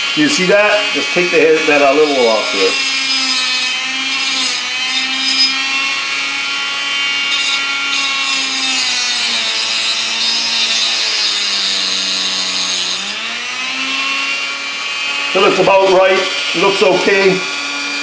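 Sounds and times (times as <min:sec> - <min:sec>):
rotary tool grinding metal: 0:00.0 - 0:18.0.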